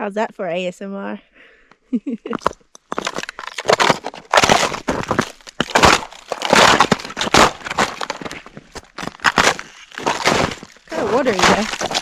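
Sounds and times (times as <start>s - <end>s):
boots crunching thin ice: 2.3s - 12.0s.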